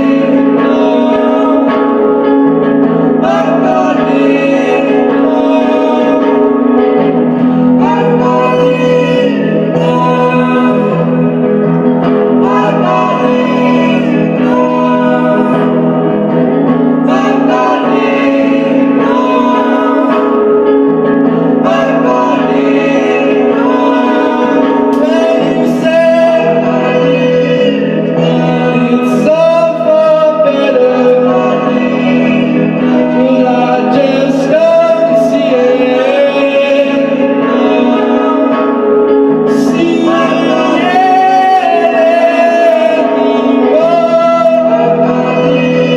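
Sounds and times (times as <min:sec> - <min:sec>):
person singing wavering melody: 0:00.0 - 0:45.9.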